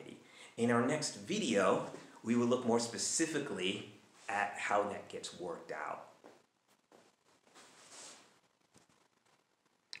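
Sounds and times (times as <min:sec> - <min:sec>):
soft hiss: 0:00.0 - 0:10.0.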